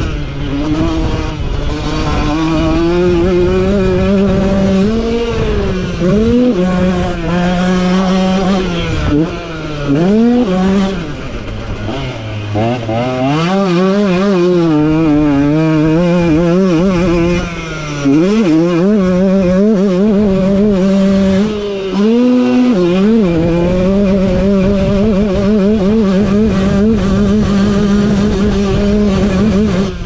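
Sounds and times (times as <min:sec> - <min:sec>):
motocross bike engine revving: 0:00.0 - 0:30.0.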